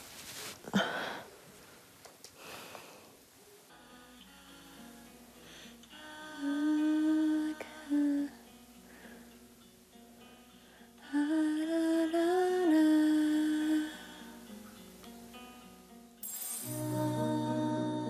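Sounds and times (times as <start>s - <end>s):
quiet background music: 3.4s - 18.0s.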